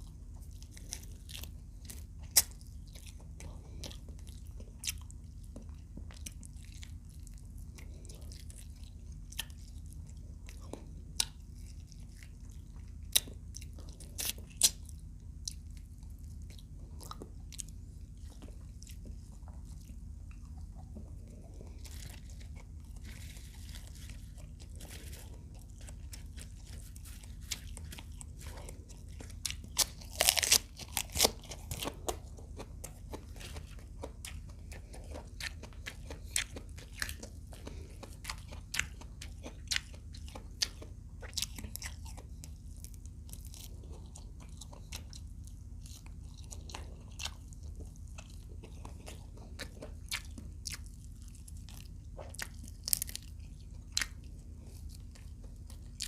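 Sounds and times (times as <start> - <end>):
chewing crispy food: 0.0 - 56.0
steady low hum: 0.0 - 56.0.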